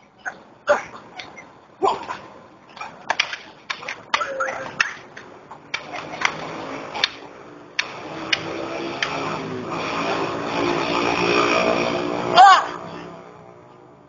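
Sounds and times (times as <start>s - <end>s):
steady droning hum: 0.0s - 14.0s.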